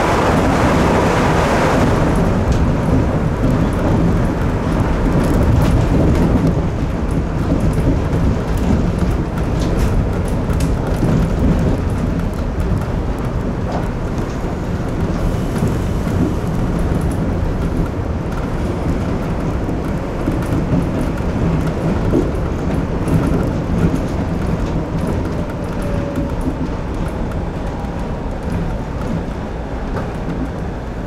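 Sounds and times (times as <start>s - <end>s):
monorail car rumbling: 0.0s - 31.0s.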